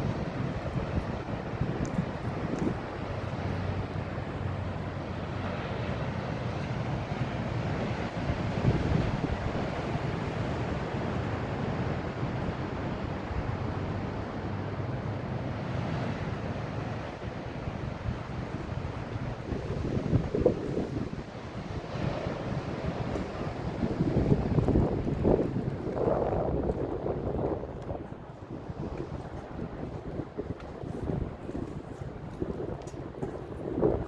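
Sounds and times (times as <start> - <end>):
ocean surf washing in: 0.0 - 34.0
wind rumbling on microphone: 0.0 - 34.0.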